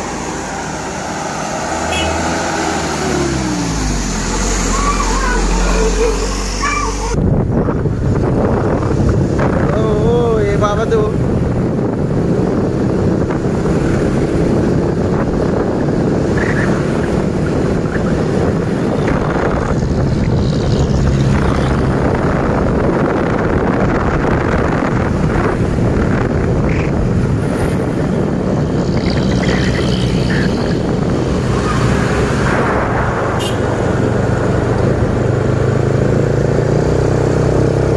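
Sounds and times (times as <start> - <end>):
truck engines rumbling: 0.0 - 37.9
wind buffeting microphone: 0.0 - 37.9.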